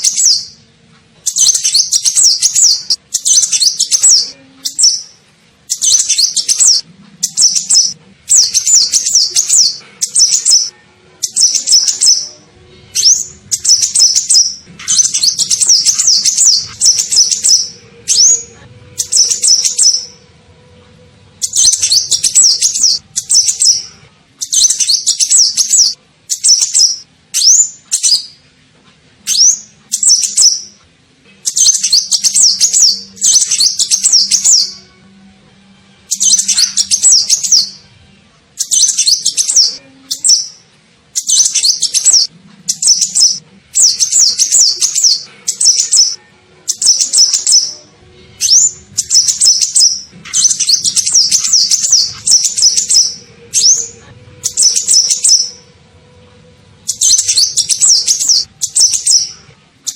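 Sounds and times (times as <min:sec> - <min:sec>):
high twittering bird chirps: 0:00.0 - 0:00.6, 0:01.2 - 0:20.2, 0:21.4 - 0:28.4, 0:29.2 - 0:30.8, 0:31.4 - 0:34.9, 0:36.1 - 0:37.8, 0:38.6 - 0:47.8, 0:48.4 - 0:55.7, 0:56.8 - 0:59.9.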